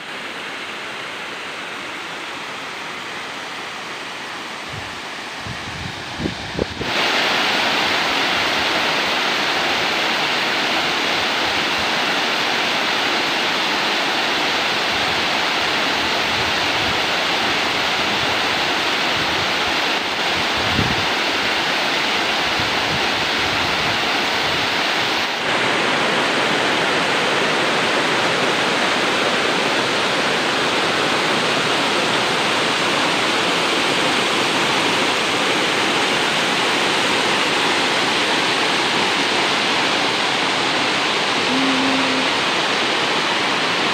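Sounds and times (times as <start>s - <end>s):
waterfall rushing over rock: 0.0s - 43.9s.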